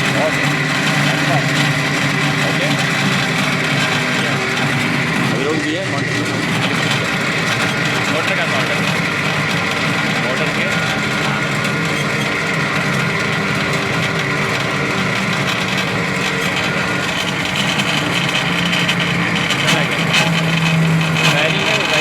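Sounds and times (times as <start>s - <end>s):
blower motor humming and rumbling: 0.0s - 22.0s.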